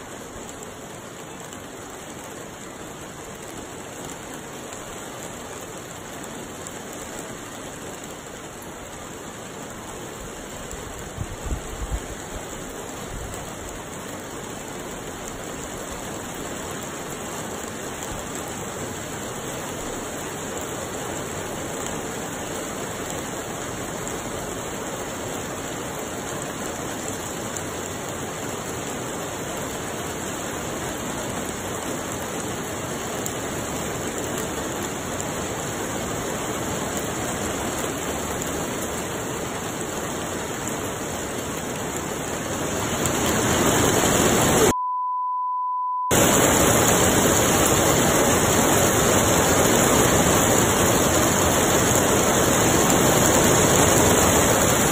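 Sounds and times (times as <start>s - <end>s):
rain falling: 0.0s - 44.7s, 46.1s - 54.9s.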